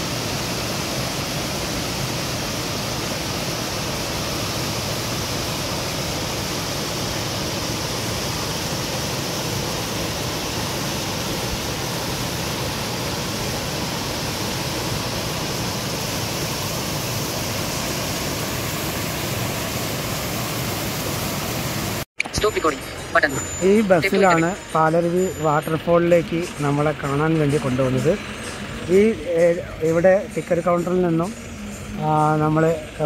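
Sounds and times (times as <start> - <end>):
waterfall rushing over rocks: 0.0 - 33.0.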